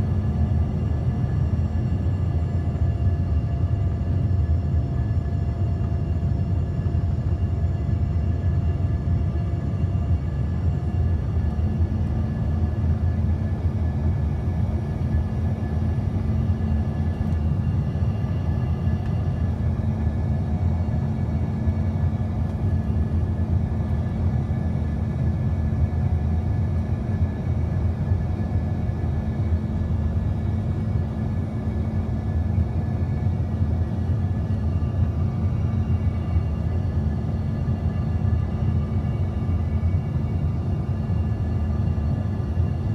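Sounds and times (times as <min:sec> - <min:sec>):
aircraft engines rumbling: 0:00.0 - 0:42.9.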